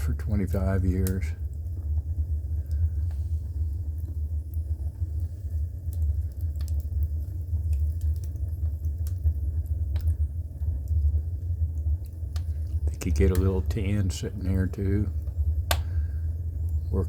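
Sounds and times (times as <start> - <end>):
wood fire rumbling and crackling: 0.0 - 17.0.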